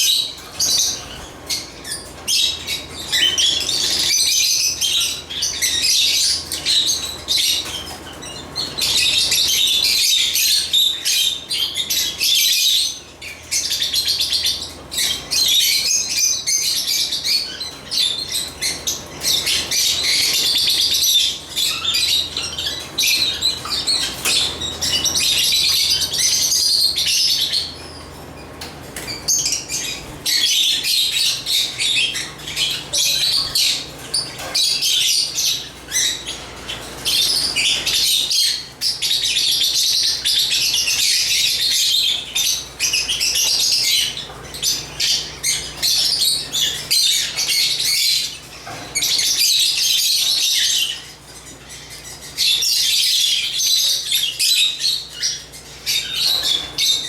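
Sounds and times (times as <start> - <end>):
lovebirds chattering: 0.0 - 57.0.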